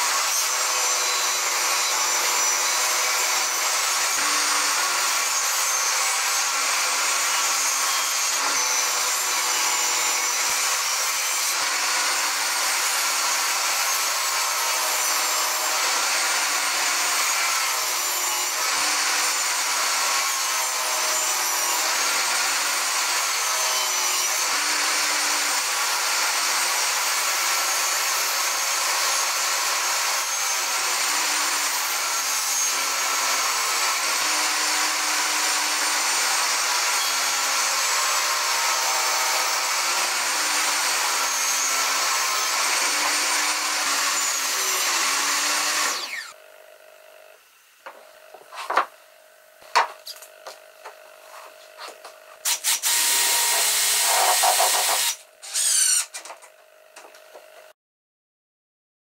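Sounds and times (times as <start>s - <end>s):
table saw cutting wood: 0.0s - 57.8s.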